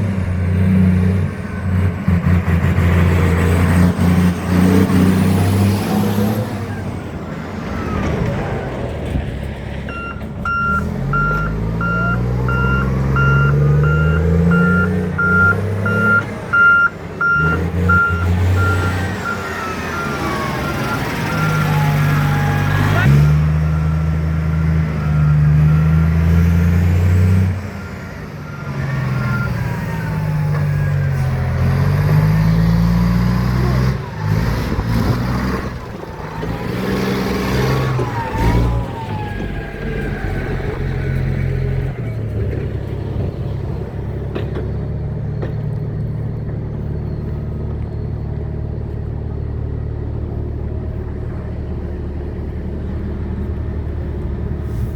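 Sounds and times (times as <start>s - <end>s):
heavy diesel engine revving: 0.0s - 54.9s.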